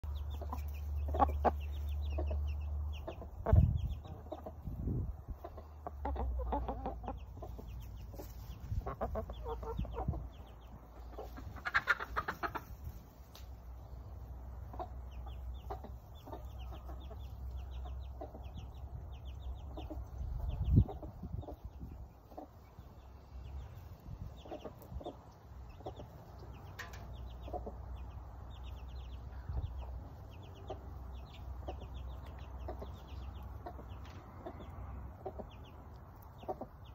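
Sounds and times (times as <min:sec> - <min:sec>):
chicks peeping: 0:00.0 - 0:36.9
hens clucking: 0:00.0 - 0:36.9.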